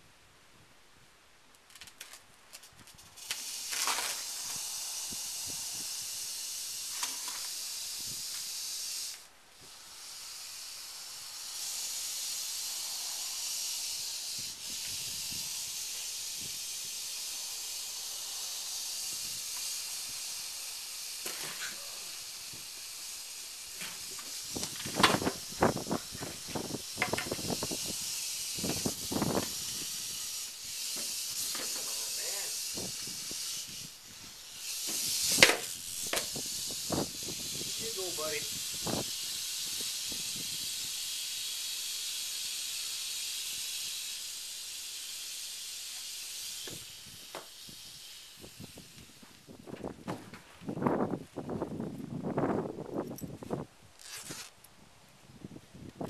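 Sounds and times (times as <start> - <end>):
rattlesnake rattling: 1.5 - 54.7.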